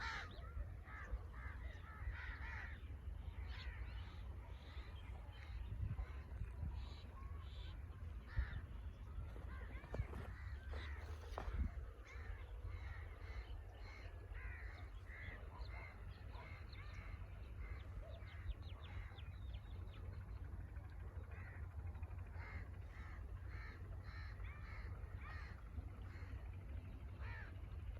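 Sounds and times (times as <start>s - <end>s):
crows cawing: 0.0s - 4.9s, 6.0s - 19.2s, 21.2s - 21.6s, 22.2s - 27.8s.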